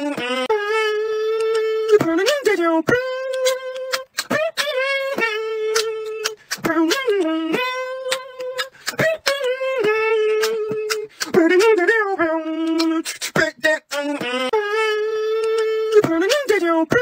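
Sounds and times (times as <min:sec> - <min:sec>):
beatboxing mouth clicks and hits: 0:00.0 - 0:17.0
beatboxing sung note: 0:00.0 - 0:17.0.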